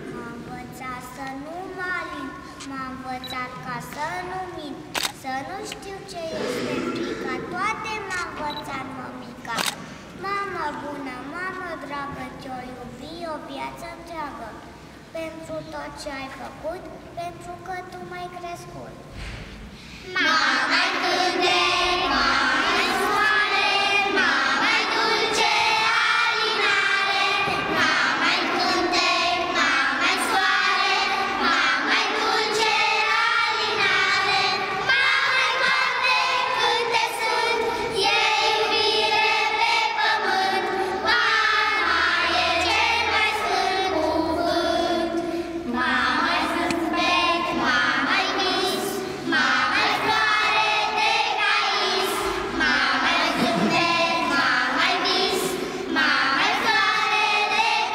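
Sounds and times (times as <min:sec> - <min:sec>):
children's choir singing: 0:00.0 - 0:04.4, 0:05.4 - 0:09.8, 0:20.1 - 0:57.9.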